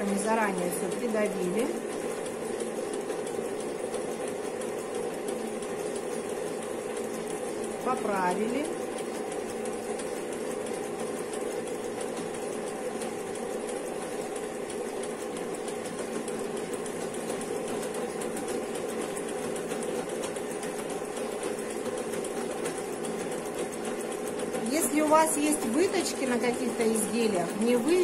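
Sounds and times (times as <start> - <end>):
linking machine humming: 0.0 - 28.0.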